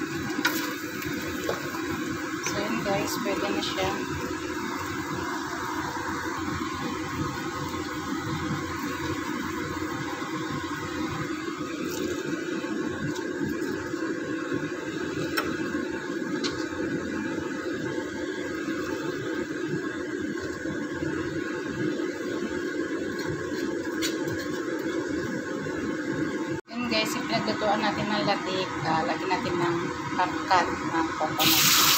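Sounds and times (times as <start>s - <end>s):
bubbling sizzle: 0.0s - 27.2s, 27.8s - 31.9s.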